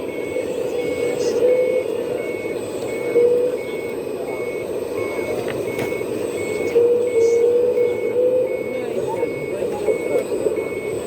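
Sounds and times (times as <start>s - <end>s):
model motors whining: 0.0s - 11.0s
reversing beeper: 0.0s - 11.0s.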